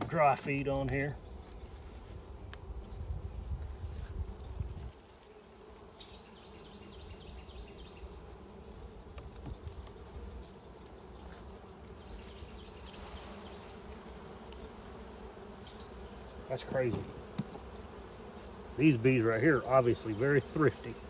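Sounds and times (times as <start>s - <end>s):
honey bees buzzing: 0.0s - 21.0s.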